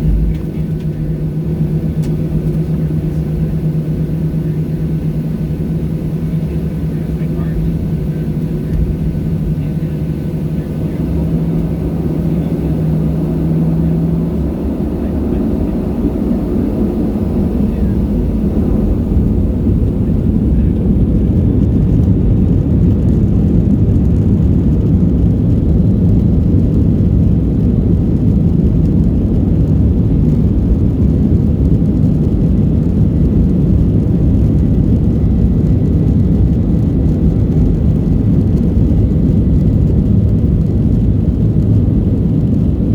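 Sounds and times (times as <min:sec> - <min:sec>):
faint engine whine: 0:00.0 - 0:42.9
jet engine cabin rumble: 0:00.0 - 0:42.9.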